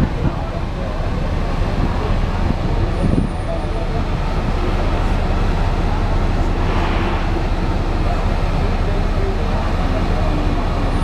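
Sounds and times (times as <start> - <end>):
ship low rumble: 0.0 - 11.0.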